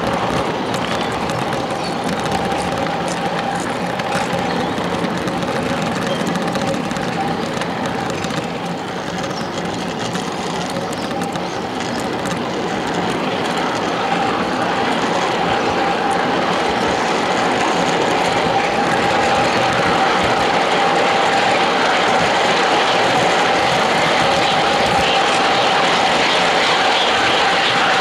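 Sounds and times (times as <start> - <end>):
miniature train wheels on rails: 0.0 - 28.0.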